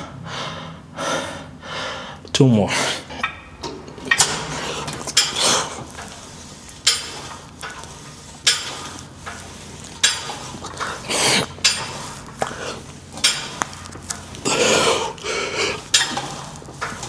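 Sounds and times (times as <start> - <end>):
weight stack metal clinking: 3.1 - 17.0.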